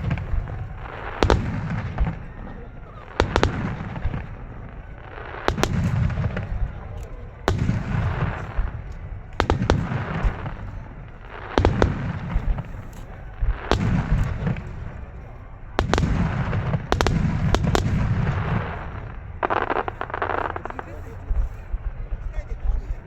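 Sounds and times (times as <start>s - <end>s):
fireworks bursting with bangs: 0.0s - 23.0s
low rolling rumble and crackle: 0.0s - 23.0s.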